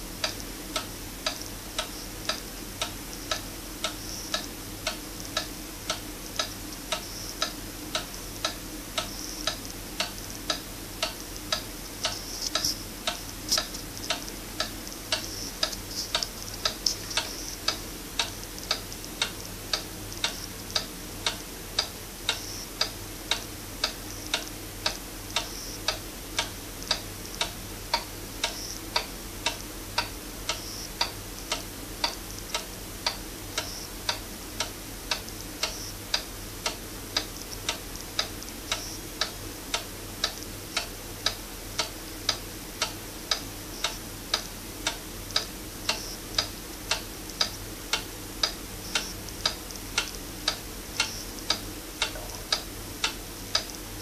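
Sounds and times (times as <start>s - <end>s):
pendulum wall clock ticking: 0.0s - 54.0s.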